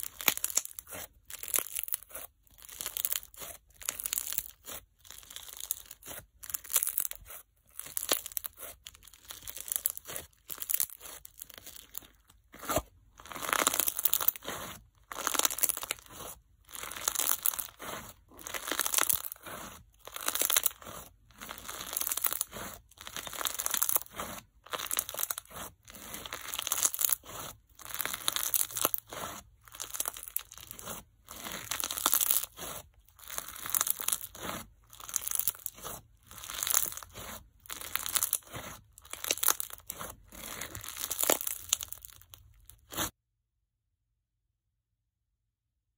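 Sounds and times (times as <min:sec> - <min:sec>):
slime crackling and popping: 0:00.0 - 0:43.1.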